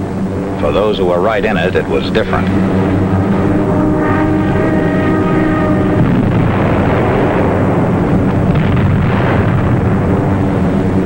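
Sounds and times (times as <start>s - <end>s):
aircraft engines droning: 0.0s - 11.0s
explosions: 2.2s - 11.0s.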